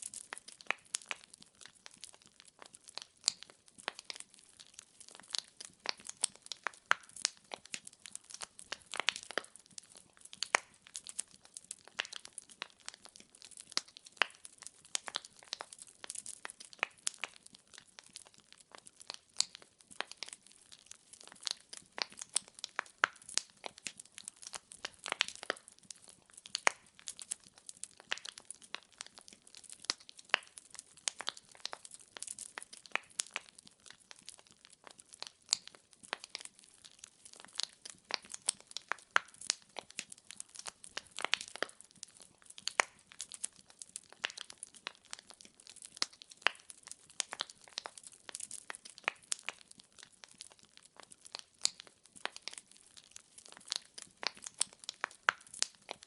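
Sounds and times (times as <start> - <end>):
burning logs popping: 0.0 - 56.0
wood fire crackling: 0.0 - 56.0.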